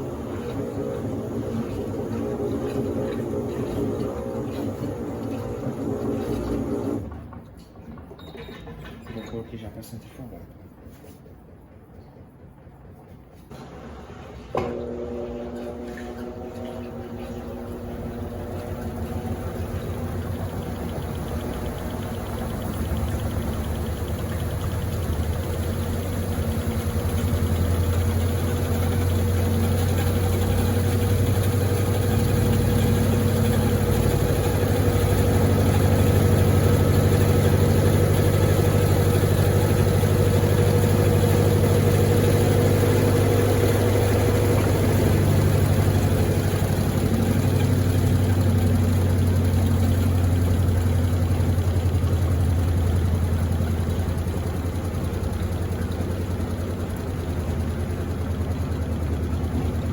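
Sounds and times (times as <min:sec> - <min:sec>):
washing machine spin cycle hum: 0:00.0 - 0:09.1, 0:10.5 - 0:59.9.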